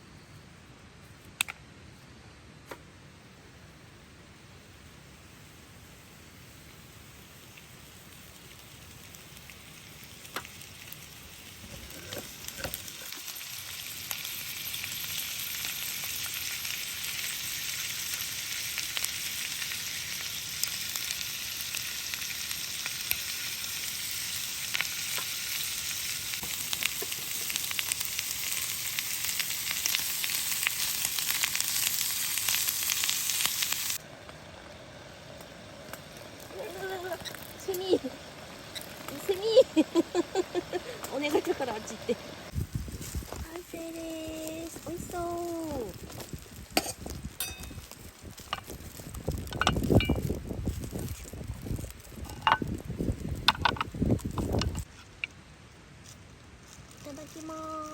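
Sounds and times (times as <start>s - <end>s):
meat sizzling in oil: 5.0s - 54.9s.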